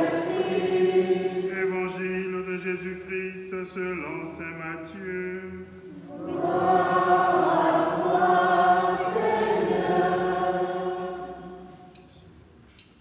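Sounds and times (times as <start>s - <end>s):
voices singing long notes: 0.0s - 11.9s.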